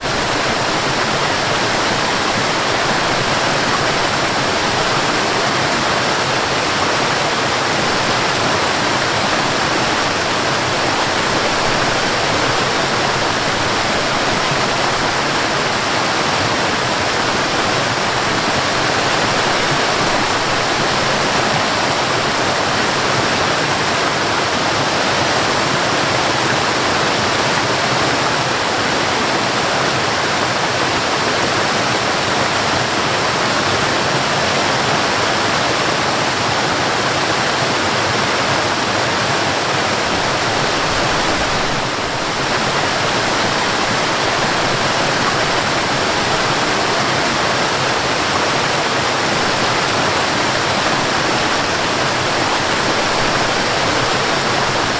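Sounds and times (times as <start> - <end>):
waterfall splashing: 0.0 - 54.9.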